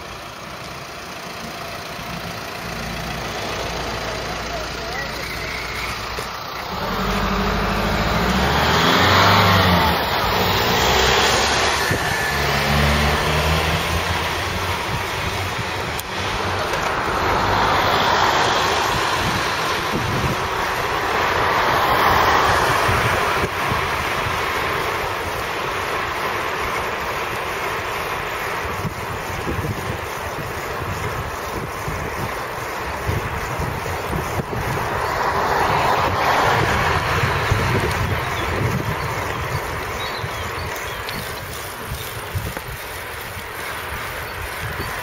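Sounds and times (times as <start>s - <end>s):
vehicles passing on street: 0.0s - 45.0s
wind rumbling on microphone: 5.4s - 45.0s.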